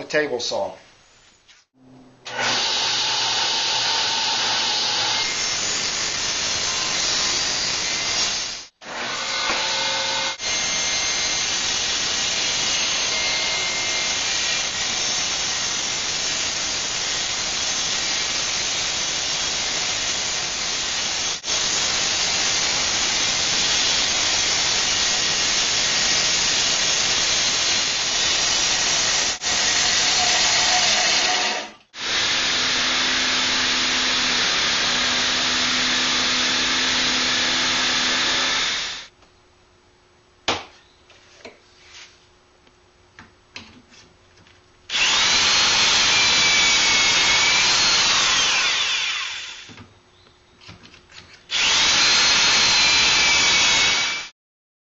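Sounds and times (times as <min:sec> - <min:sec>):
table saw cutting wood: 0:02.2 - 0:39.1, 0:44.9 - 0:49.8, 0:51.5 - 0:54.3
drill boring into wood: 0:02.3 - 0:39.1, 0:44.9 - 0:49.8, 0:51.5 - 0:54.3.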